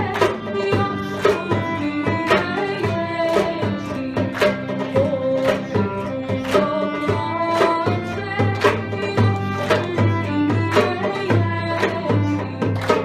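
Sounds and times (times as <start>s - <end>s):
plucked small string instruments: 0.0s - 13.0s
violin: 0.0s - 13.0s.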